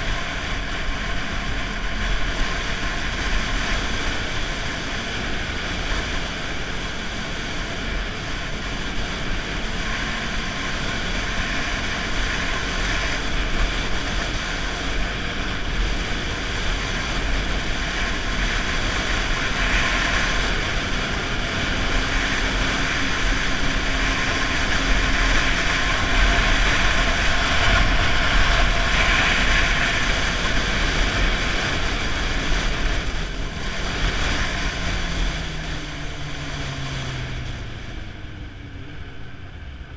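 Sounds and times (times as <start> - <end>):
snowmobile engine running: 0.0 - 39.9
wind rumble on microphone: 0.0 - 39.9.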